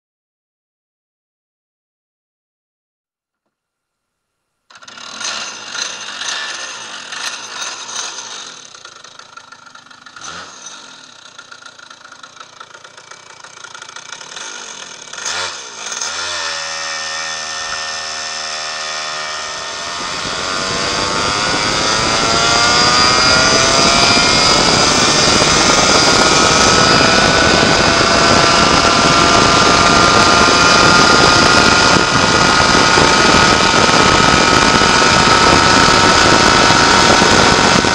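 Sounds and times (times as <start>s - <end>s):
go-kart engine: 4.7s - 37.9s.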